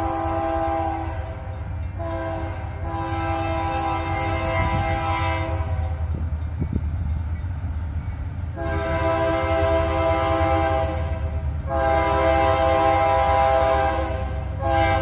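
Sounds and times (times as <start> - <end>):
locomotive air horn blasts: 0.0 - 6.0, 8.6 - 15.0
train low rumble: 0.0 - 15.0.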